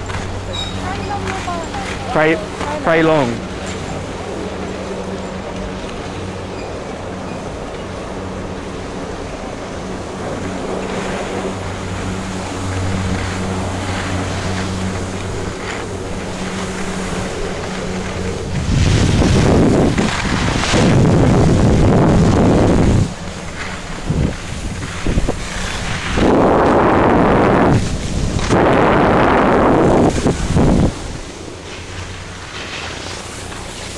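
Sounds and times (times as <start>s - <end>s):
skis hissing on snow: 0.0s - 4.4s, 10.1s - 33.9s
low mechanical hum: 0.0s - 33.9s
wind buffeting microphone: 0.0s - 33.9s.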